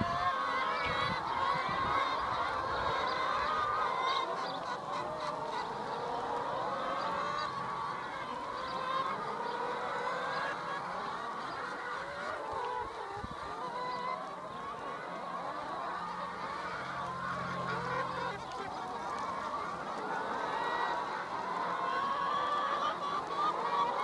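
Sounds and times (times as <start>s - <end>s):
hens calling in chorus: 0.0s - 24.0s.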